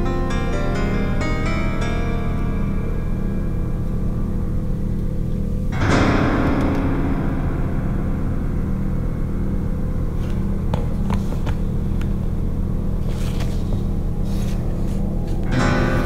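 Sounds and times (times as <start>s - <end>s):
low droning background music: 0.0s - 16.0s.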